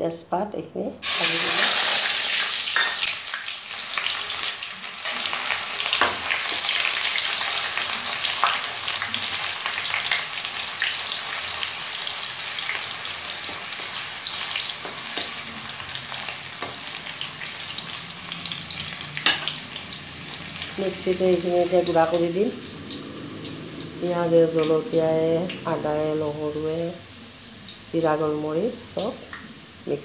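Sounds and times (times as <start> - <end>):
onions sizzling in hot oil: 1.0 - 30.0.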